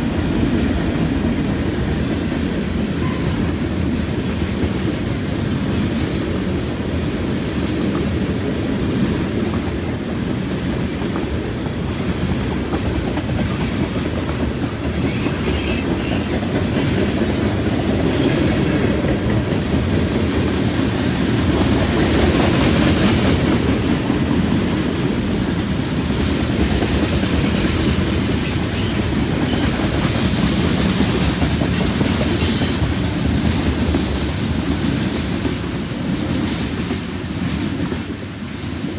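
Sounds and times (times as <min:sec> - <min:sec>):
train wheels rumbling on rails: 0:00.0 - 0:38.9
wheels clickety-clack over joints: 0:00.1 - 0:38.9.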